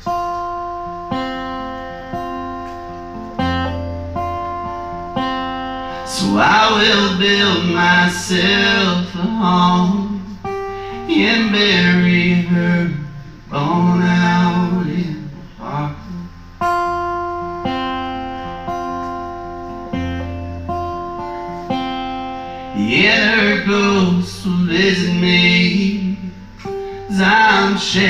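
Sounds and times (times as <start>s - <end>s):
acoustic guitar strummed: 0.0s - 28.0s
guitar lead melody: 0.0s - 28.0s.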